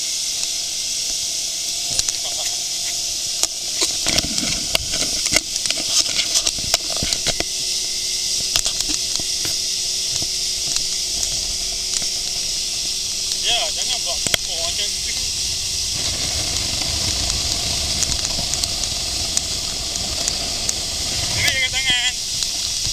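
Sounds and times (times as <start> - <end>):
steady high hiss: 0.0 - 22.9.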